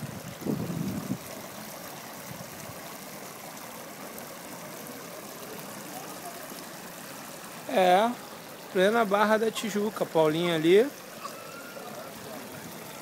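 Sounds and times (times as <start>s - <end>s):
water flowing in a pond: 0.0s - 13.0s.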